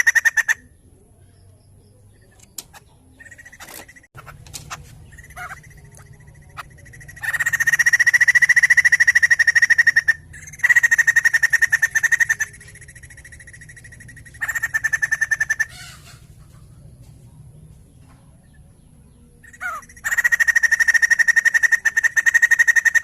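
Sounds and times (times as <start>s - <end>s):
bird rattling trills: 0.0s - 0.6s, 2.3s - 17.7s, 19.4s - 23.0s
faint low hum: 0.0s - 23.0s.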